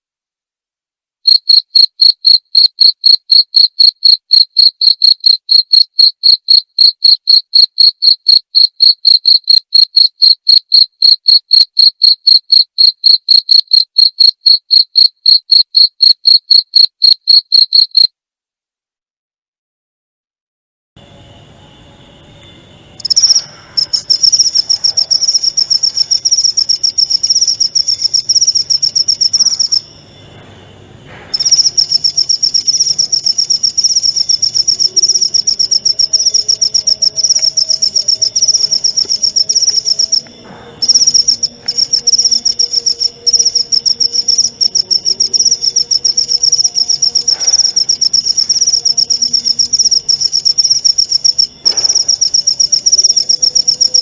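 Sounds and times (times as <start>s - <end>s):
cricket trilling: 1.3s - 18.1s, 21.0s - 30.4s, 31.3s - 54.0s.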